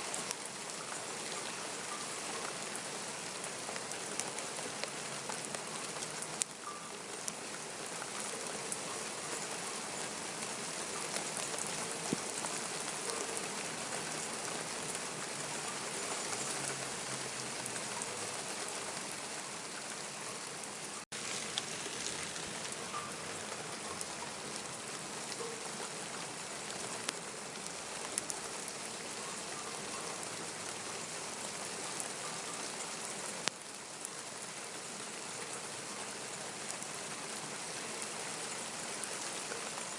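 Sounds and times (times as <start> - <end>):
raindrops ticking on hard surfaces: 0.0 - 39.9
steady rain falling: 0.0 - 39.9.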